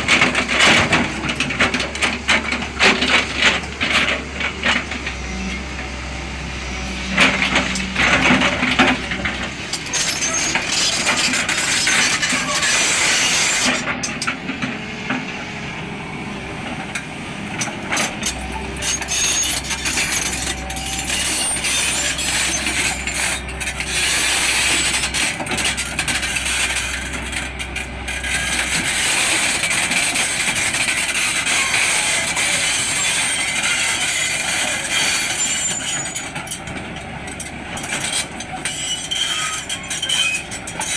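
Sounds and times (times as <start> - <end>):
clanking rattling and scraping: 0.0 - 5.1, 7.1 - 15.2, 17.0 - 40.9
excavator engine drone: 0.0 - 40.9.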